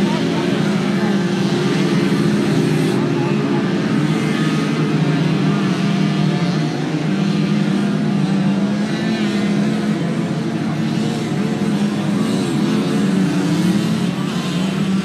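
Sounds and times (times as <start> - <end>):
moped engines running: 0.0 - 15.0.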